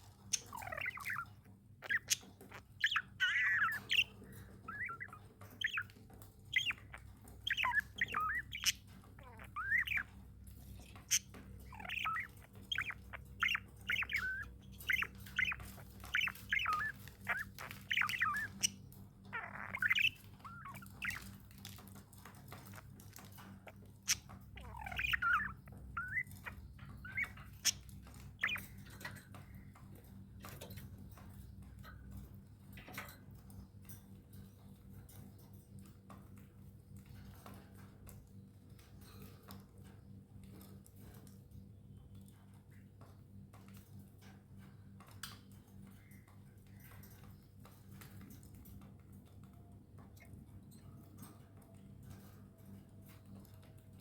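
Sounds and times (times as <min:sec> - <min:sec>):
budgerigars chirping and chattering: 0:00.0 - 0:41.4, 0:50.0 - 0:54.0.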